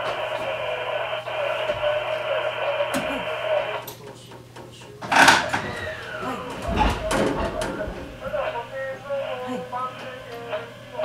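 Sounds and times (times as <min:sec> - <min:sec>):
steady low hum: 0:00.0 - 0:11.0
tinny loudspeaker sound: 0:00.0 - 0:11.0.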